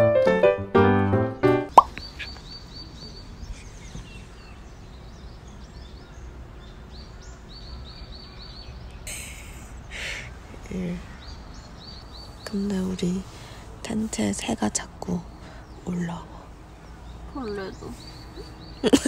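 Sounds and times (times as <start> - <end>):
small birds chirping: 1.7 - 19.0.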